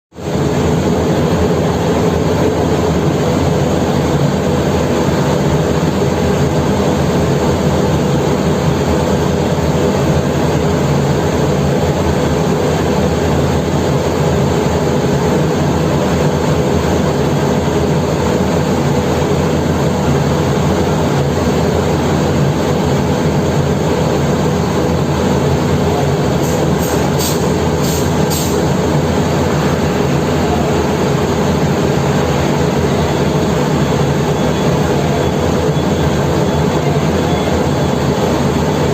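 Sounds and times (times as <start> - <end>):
large diesel engine drone: 0.1 - 38.9.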